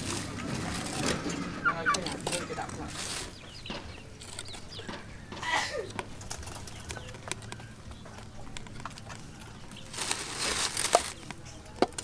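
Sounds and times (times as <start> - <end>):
charcoal clicking and knocking: 0.0 - 12.0.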